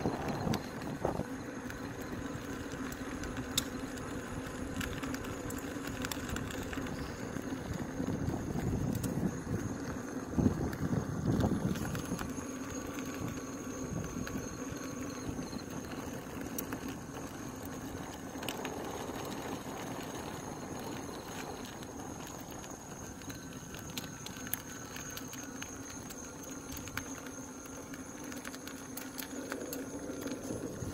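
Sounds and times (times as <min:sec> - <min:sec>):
electric unicycle motor hum: 0:00.0 - 0:30.9
faint high-pitched whine: 0:00.0 - 0:30.9.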